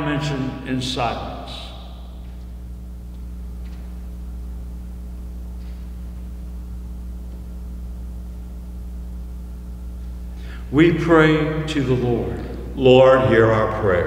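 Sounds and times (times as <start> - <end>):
mains hum: 0.0 - 14.0.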